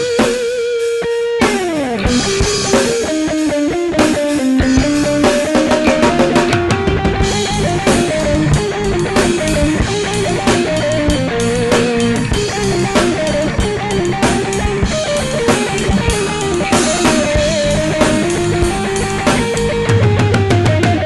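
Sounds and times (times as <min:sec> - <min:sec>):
heavy metal band instrumental: 0:00.0 - 0:21.0.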